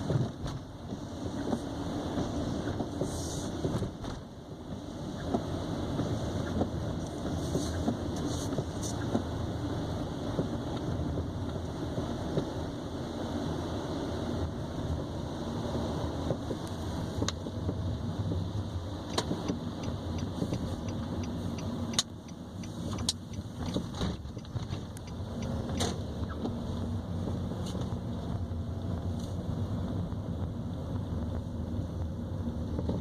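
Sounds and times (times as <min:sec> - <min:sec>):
road and tyre rumble: 0:00.0 - 0:33.0.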